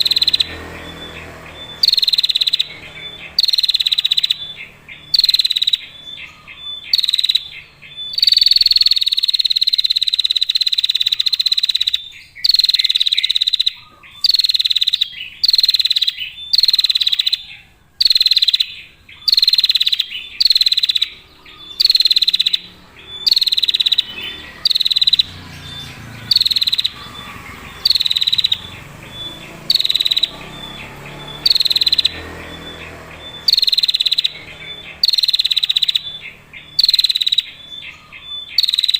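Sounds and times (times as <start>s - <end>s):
bird buzzing trill: 0.0s - 38.9s.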